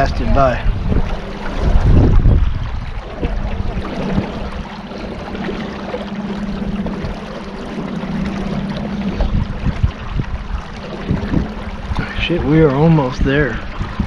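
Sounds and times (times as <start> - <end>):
boat motor humming: 0.0 - 14.0
water splashing along hull: 0.0 - 14.0.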